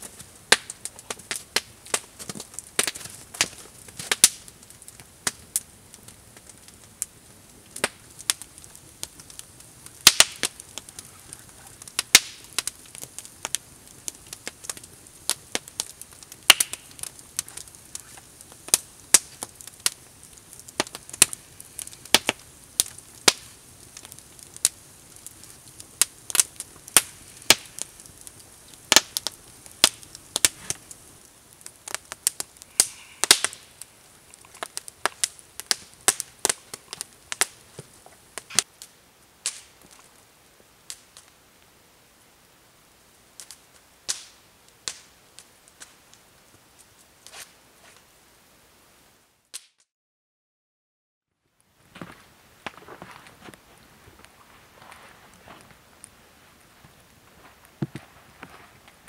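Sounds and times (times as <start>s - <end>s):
faint steady hiss: 0.0s - 49.5s, 51.3s - 59.0s
campfire crackling: 0.0s - 49.7s, 51.4s - 59.0s.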